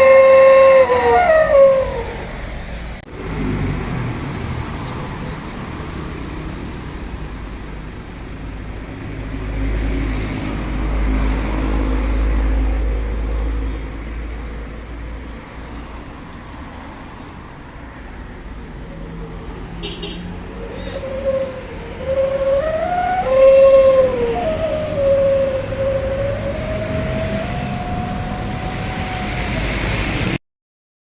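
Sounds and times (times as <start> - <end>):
car engine low rumble: 0.8 - 30.4.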